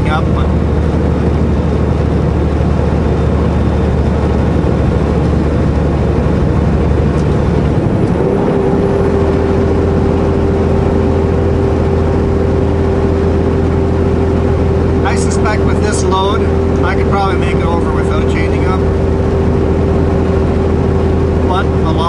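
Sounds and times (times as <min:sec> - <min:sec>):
diesel truck engine running: 0:00.0 - 0:22.0
road and cab noise: 0:00.0 - 0:22.0.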